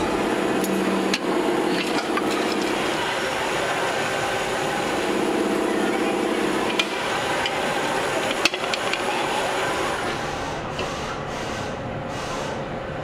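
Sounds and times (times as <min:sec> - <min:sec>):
factory machinery hum: 0:00.0 - 0:13.0.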